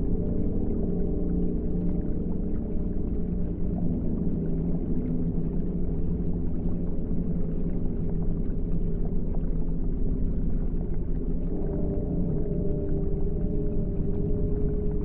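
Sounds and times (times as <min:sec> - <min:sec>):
ambient meditation drone: 0:00.0 - 0:15.0.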